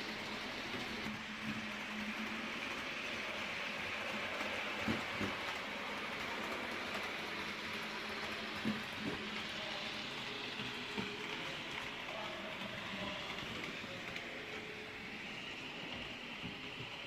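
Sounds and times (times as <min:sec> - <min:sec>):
wheels clicking on rail joints: 0:00.0 - 0:15.0.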